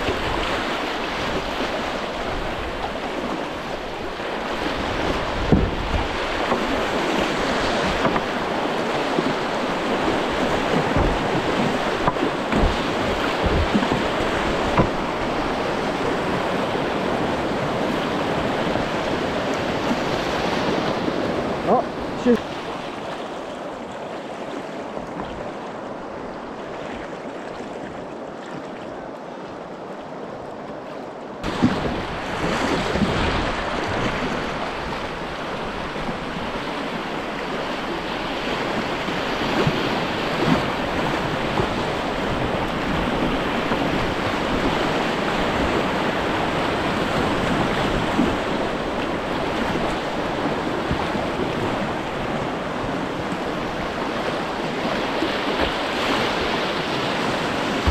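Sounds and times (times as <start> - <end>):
wind on microphone: 0.0 - 23.2, 31.4 - 57.9
paddle splashes: 0.0 - 57.9
rushing river water: 0.0 - 57.9.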